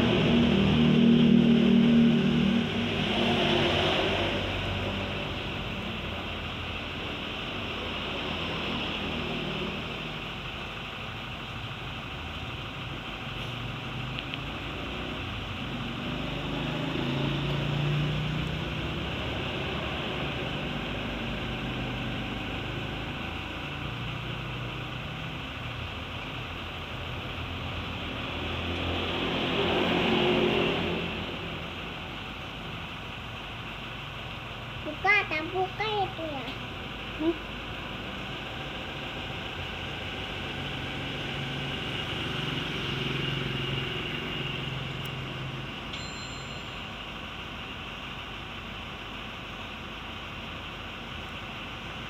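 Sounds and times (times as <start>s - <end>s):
passing vehicle engine hum: 0.0s - 34.0s, 34.7s - 46.1s.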